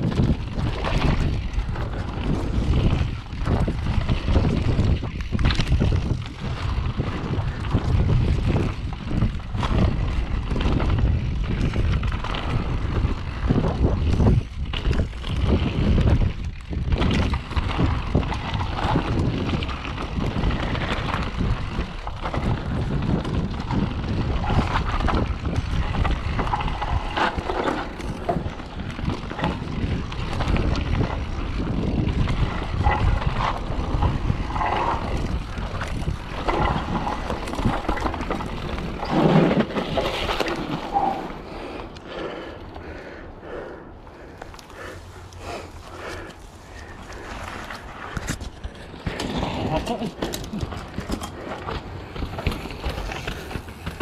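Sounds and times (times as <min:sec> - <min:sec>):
bike rattling over rough ground: 0:00.0 - 0:54.0
bike tyre rumble on dirt: 0:00.0 - 0:54.0
wind buffeting microphone: 0:00.0 - 0:54.0.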